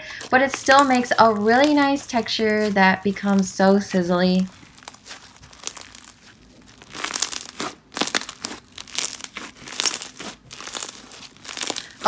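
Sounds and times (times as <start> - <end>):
slime crackling when squeezed: 0.2 - 12.0.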